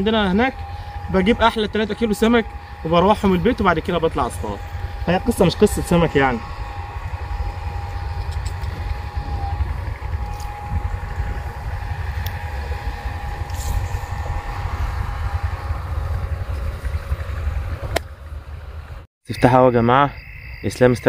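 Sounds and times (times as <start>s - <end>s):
wind buffeting microphone: 0.0s - 19.0s
thin steady whine: 0.0s - 21.0s.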